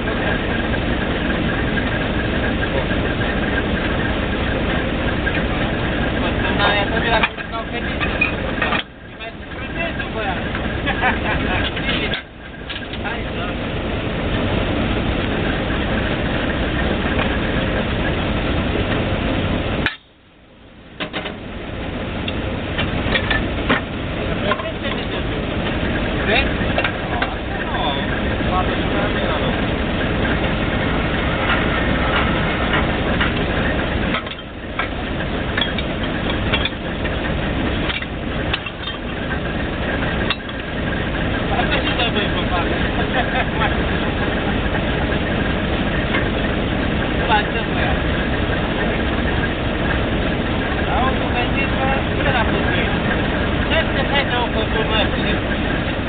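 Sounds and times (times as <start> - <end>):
drilling rig engine running: 0.0 - 56.0.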